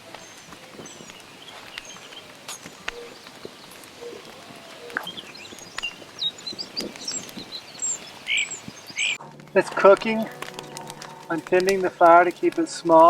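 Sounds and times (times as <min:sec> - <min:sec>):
birds chirping and whistling: 0:00.0 - 0:13.0
fire crackling: 0:00.0 - 0:13.0.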